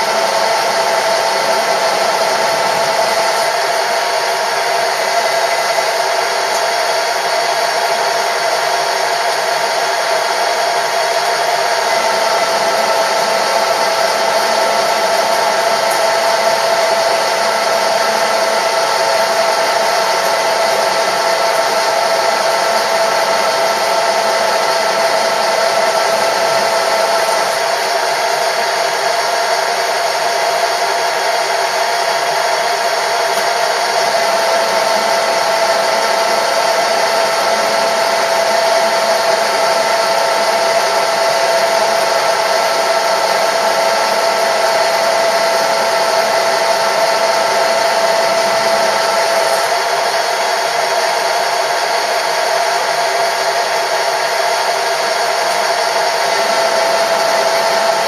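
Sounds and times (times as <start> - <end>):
machine tool whirring: 0.0 - 58.0.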